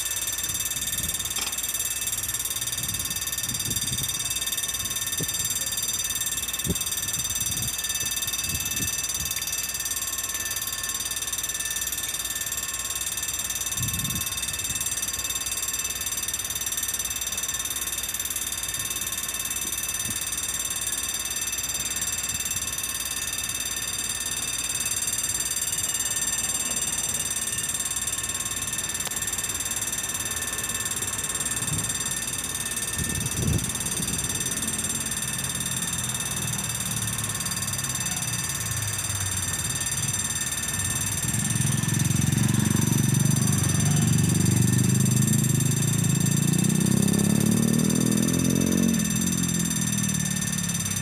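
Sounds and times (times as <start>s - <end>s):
level crossing bell ringing: 0.0s - 51.0s.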